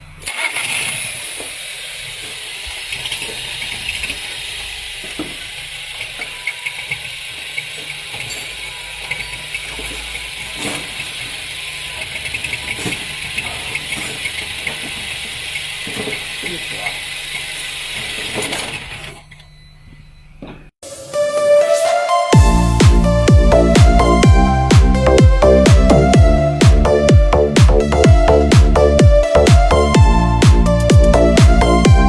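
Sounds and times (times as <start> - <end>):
car engine running: 0.0 - 19.1, 22.4 - 32.0.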